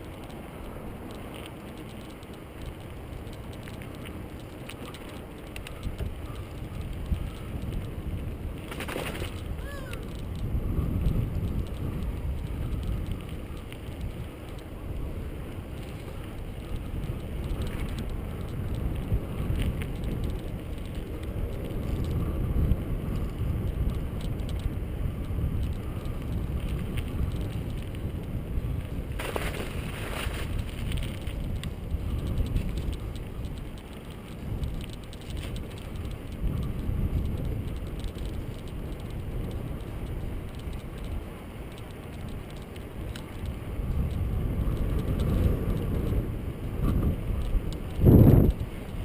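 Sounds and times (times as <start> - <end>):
bicycle tyres rolling: 0.0 - 49.0
wind on microphone: 0.0 - 49.0.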